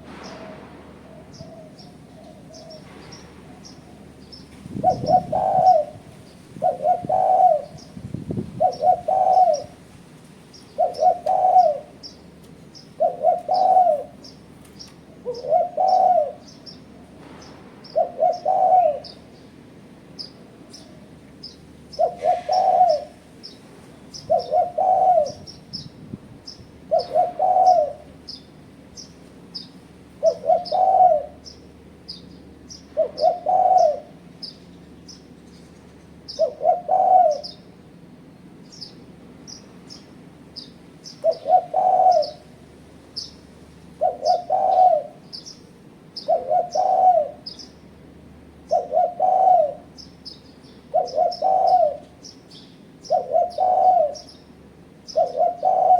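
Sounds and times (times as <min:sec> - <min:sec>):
dove cooing: 0:00.0 - 0:19.4, 0:20.2 - 0:28.6, 0:29.5 - 0:32.2, 0:32.8 - 0:34.6, 0:36.1 - 0:37.8, 0:40.6 - 0:55.9
small birds chirping: 0:01.3 - 0:09.7, 0:10.4 - 0:19.6, 0:20.2 - 0:47.9, 0:48.6 - 0:55.9.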